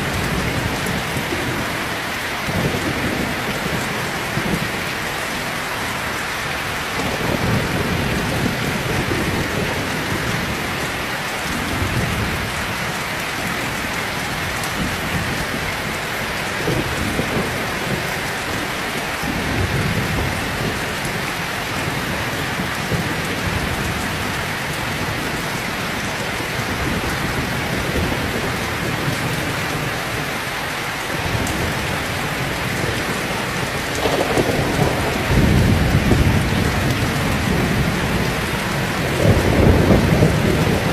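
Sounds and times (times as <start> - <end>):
thunder rumbling: 0.0 - 30.3, 31.1 - 40.9
heavy rain falling: 0.0 - 40.9.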